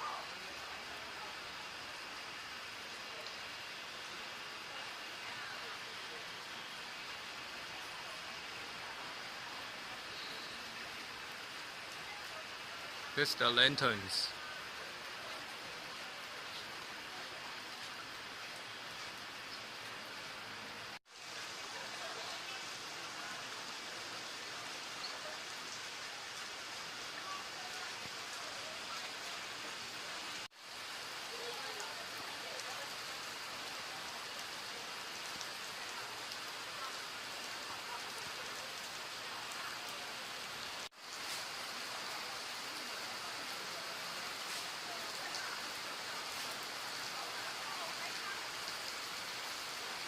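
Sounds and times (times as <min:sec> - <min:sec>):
steady outdoor hiss: 0:00.0 - 0:50.0.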